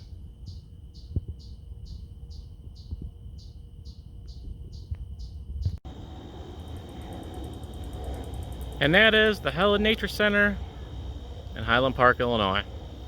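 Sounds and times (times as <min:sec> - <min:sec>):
high-pitched insect trill: 0:00.0 - 0:13.0
insects chirping: 0:00.0 - 0:13.0.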